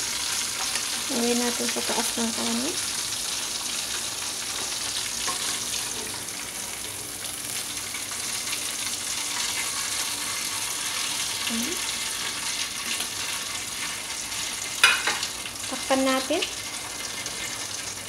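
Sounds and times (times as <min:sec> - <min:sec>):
food sizzling on stovetop: 0:00.0 - 0:18.0.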